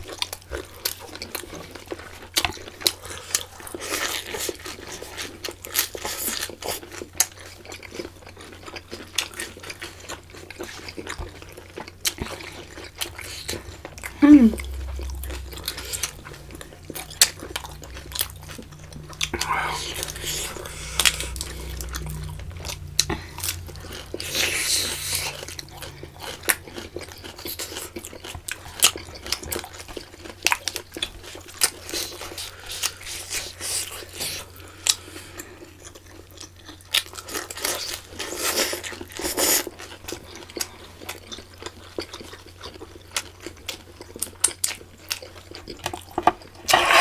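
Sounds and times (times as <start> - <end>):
wet chewing and crunching: 0.0 - 47.0.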